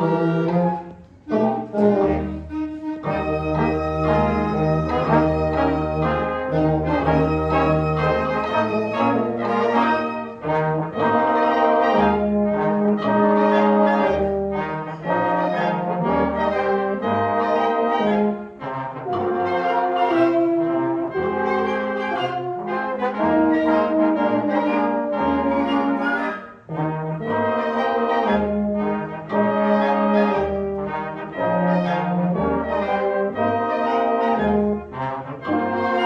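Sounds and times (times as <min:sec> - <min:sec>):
brass instruments: 0:00.0 - 0:36.0.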